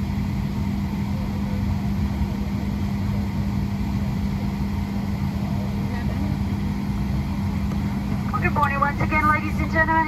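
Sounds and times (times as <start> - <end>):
airplane cabin hum: 0.0 - 10.0.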